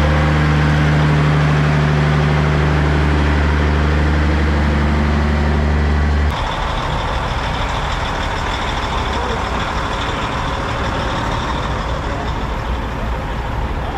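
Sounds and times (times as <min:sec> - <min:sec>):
rough noisy truck: 0:00.0 - 0:13.9
truck diesel engine running: 0:00.0 - 0:13.9.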